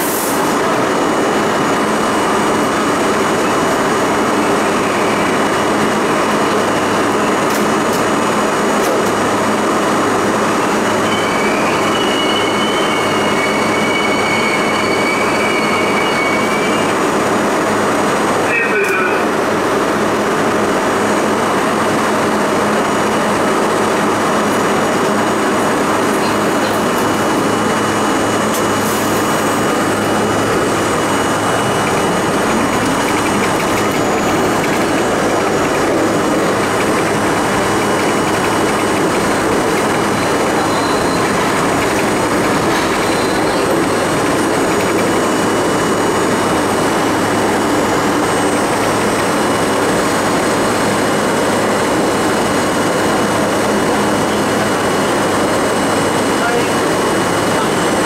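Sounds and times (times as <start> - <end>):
subway train running: 0.0 - 58.0.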